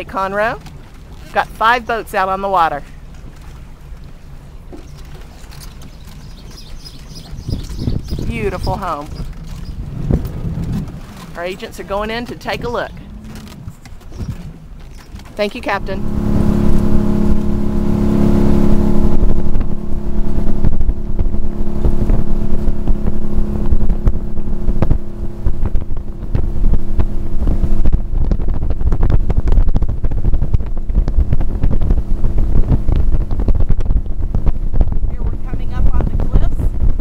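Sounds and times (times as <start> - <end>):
motorboat engine running: 0.0 - 37.0
wind buffeting microphone: 0.0 - 37.0.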